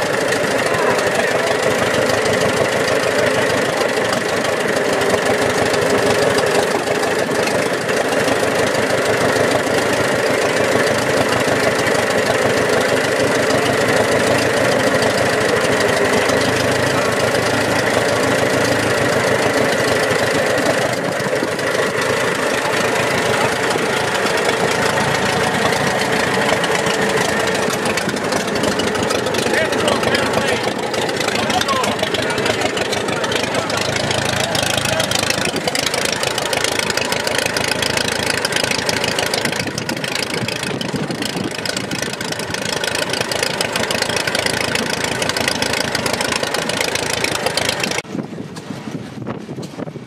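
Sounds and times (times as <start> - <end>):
tractor engine idling: 0.0 - 48.8.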